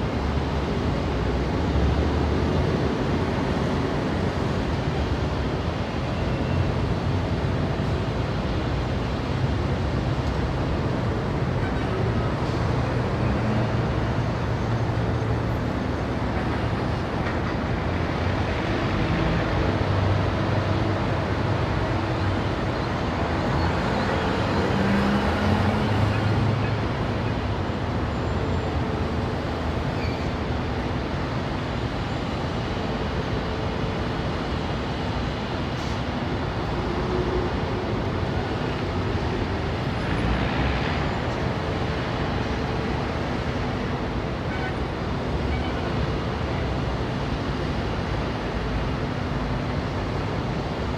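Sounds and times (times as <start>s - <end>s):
city street traffic: 0.0s - 50.9s.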